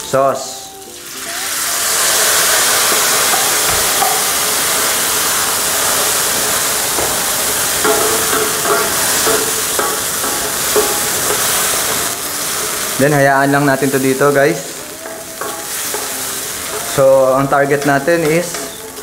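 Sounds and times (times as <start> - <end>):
sauce sizzling in hot wok: 0.0 - 19.0.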